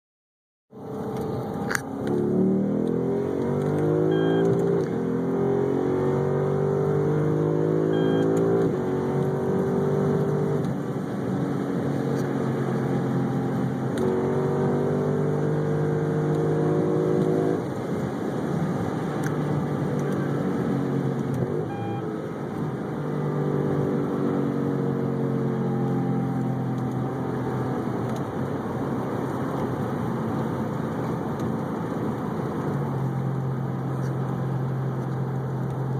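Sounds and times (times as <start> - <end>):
car engine accelerating through gears: 0.8 - 35.9.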